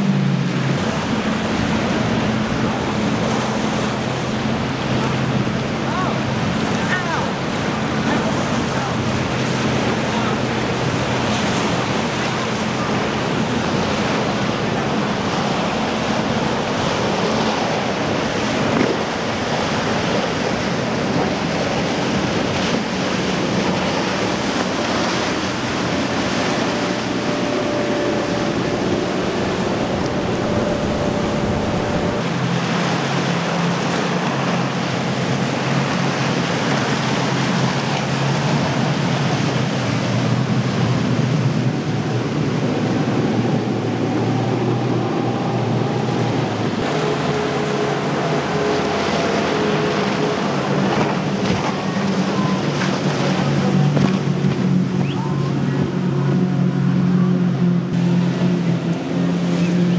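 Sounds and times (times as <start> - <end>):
boat engines running: 0.0 - 59.9
breaking waves: 0.0 - 59.9
wind buffeting microphone: 0.0 - 59.9.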